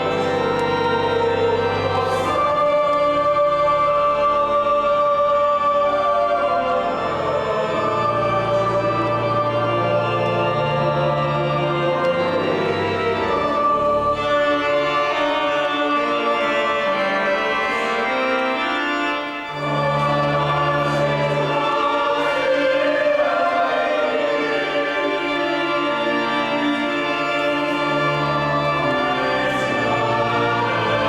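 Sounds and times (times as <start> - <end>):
choir singing: 0.0 - 31.0
church organ playing chords: 0.0 - 31.0.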